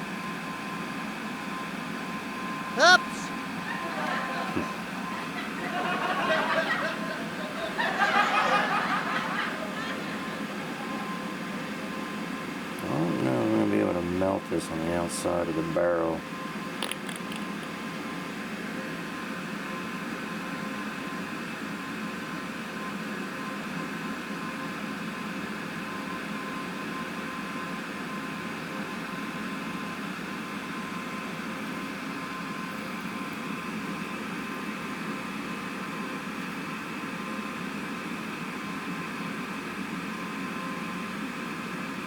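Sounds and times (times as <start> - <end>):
mechanical hum and hiss: 0.0 - 42.0.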